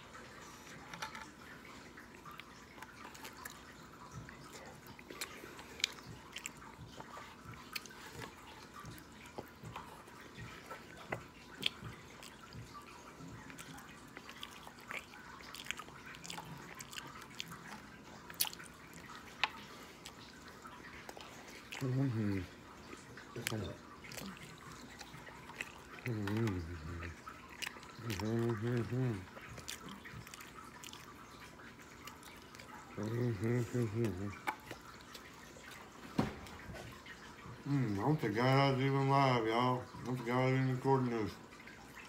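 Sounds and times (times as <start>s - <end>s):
person chewing close to microphone: 0.0s - 38.4s.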